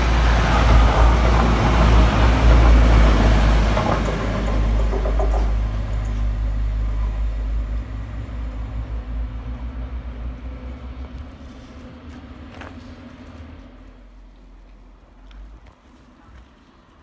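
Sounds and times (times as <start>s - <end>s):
diesel train engine drone: 0.0s - 17.0s.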